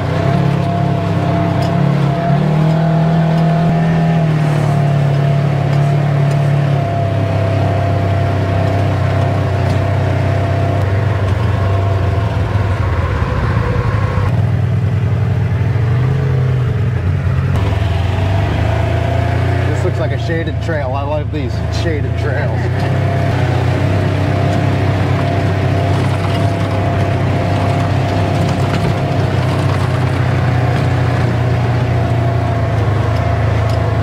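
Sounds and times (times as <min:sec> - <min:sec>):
off-road vehicle engine running: 0:00.0 - 0:34.0.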